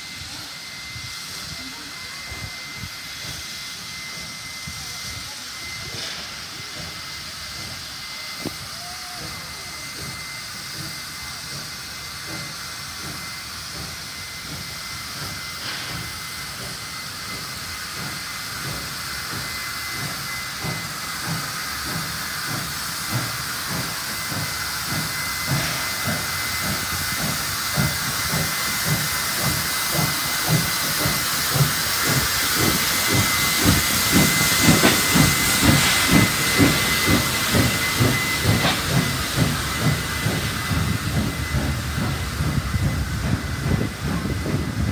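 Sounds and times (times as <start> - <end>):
low rhythmic locomotive beats: 0.0 - 44.9
steam hissing with high note: 0.0 - 44.9.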